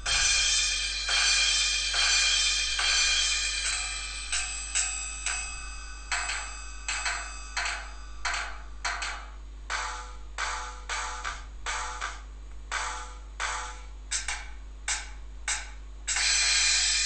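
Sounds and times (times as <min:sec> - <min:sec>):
ringing drum hit: 0:00.0 - 0:17.0
tom-tom drum samples on phone speaker: 0:00.0 - 0:17.0.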